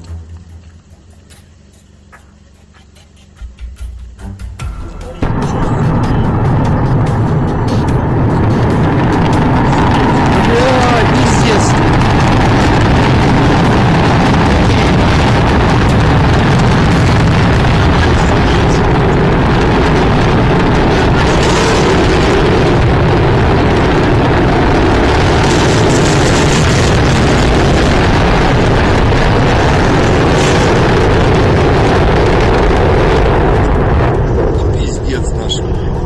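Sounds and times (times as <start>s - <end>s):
rocket engines roaring: 0.0s - 36.0s.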